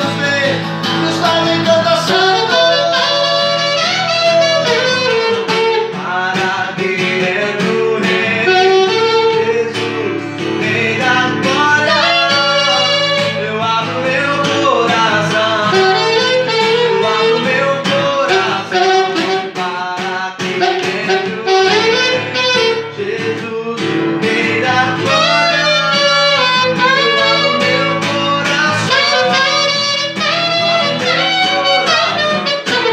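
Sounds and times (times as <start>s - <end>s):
alto saxophone melody: 0.0s - 6.1s, 8.1s - 10.2s, 11.3s - 19.8s, 20.4s - 23.0s, 24.6s - 32.9s
acoustic guitar: 0.0s - 32.9s
man singing: 0.0s - 32.9s.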